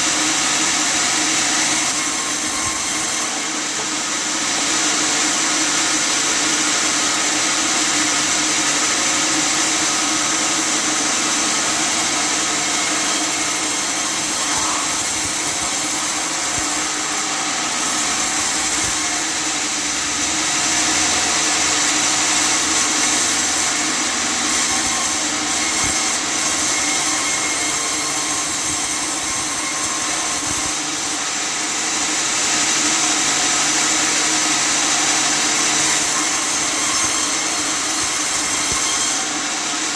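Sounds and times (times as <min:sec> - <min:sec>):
sawmill sawing wood: 0:00.0 - 0:39.9.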